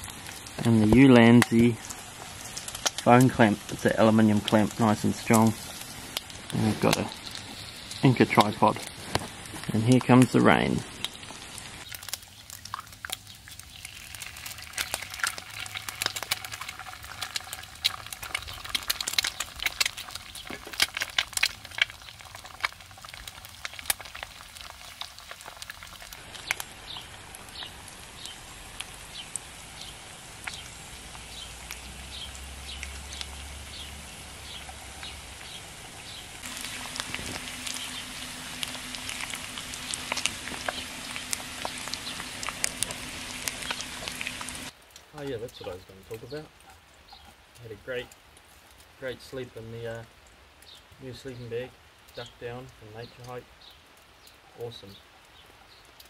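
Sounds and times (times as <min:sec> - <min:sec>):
rain pattering on a tarp: 0:00.0 - 0:56.0.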